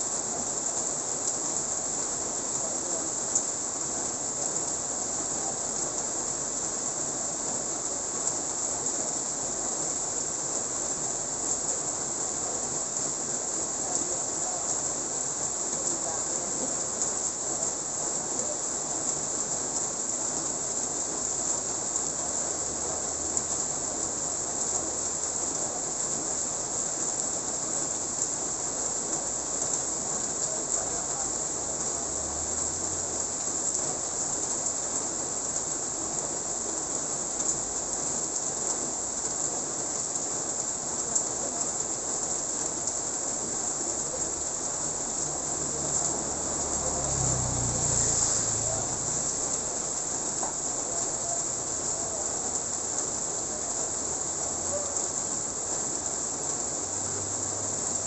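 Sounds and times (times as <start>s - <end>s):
high hiss: 0.0s - 58.0s
rain falling on a road: 0.0s - 58.0s.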